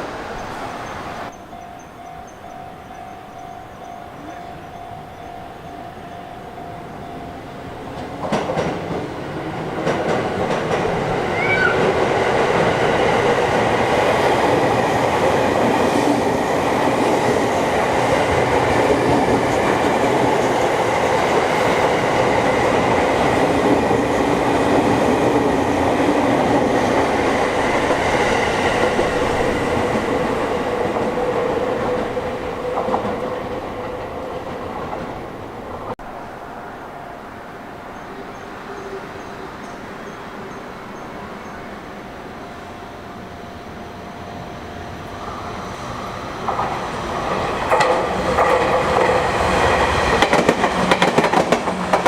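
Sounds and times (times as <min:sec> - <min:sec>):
train wheels rumbling on rails: 0:00.0 - 0:36.0, 0:44.5 - 0:52.0.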